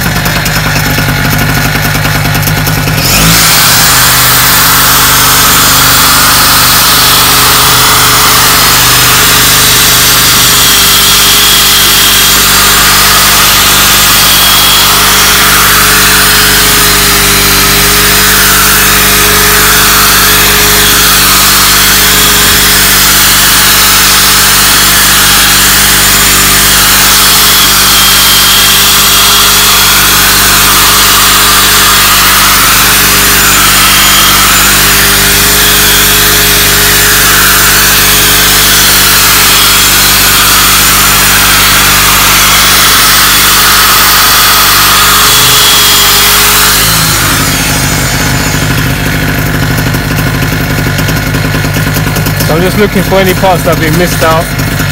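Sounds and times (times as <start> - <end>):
electric drill sanding: 0.0 - 54.9
generator engine humming: 0.0 - 54.9.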